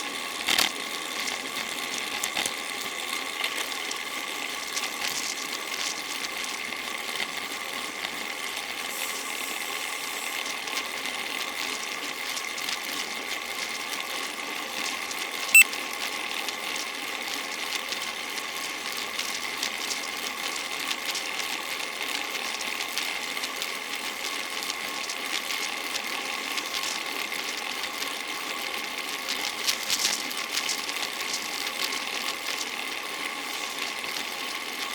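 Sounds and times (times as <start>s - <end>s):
bicycle drivetrain whirring: 0.0s - 15.4s, 16.2s - 34.9s.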